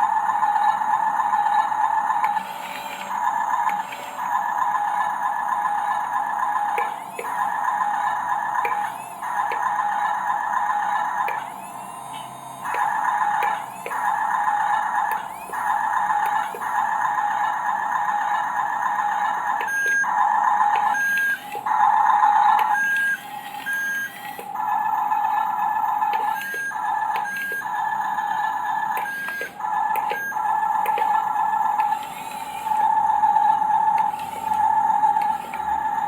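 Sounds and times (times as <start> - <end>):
toy electronic whine: 0.0 - 36.0.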